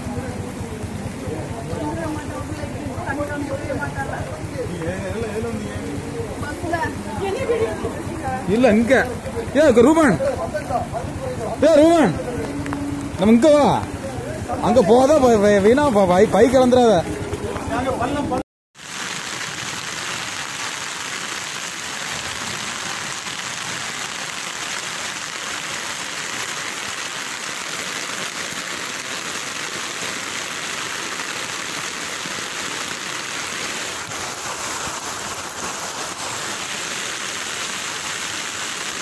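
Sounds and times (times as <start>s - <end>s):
heavy rain hissing: 0.0s - 39.0s.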